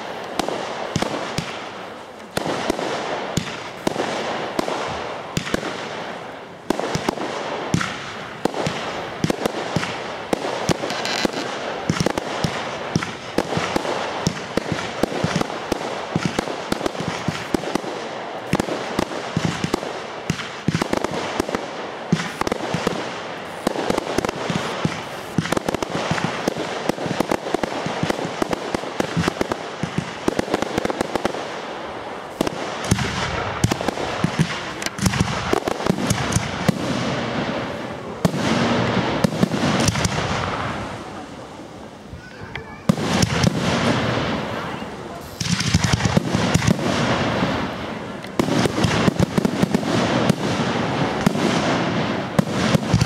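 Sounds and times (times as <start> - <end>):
fireworks bangs and pops: 0.0 - 53.0.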